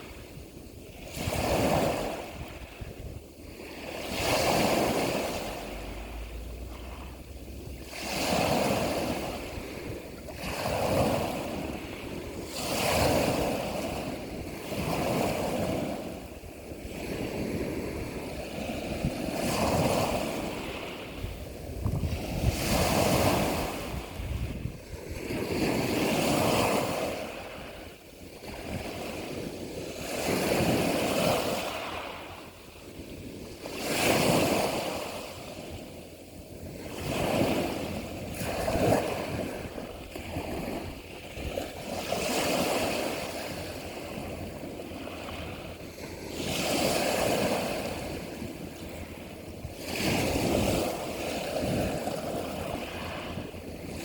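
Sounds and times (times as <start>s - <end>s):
sea waves washing in: 0.0s - 54.0s.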